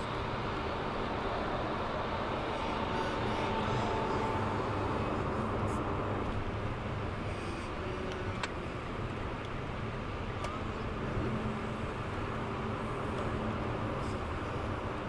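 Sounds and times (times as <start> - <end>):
car engine hum: 0.0 - 15.0
road and tyre noise: 0.0 - 15.0.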